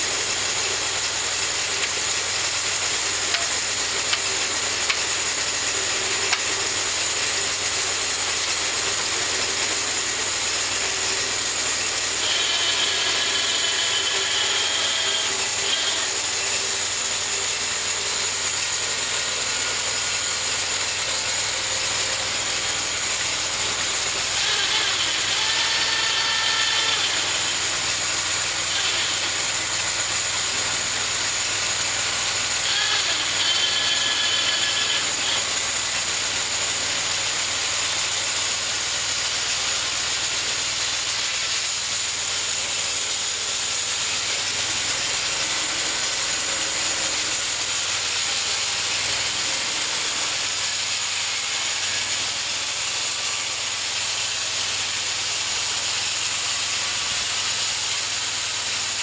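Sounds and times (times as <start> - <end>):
bandsaw blade sawing log: 0.0 - 59.0.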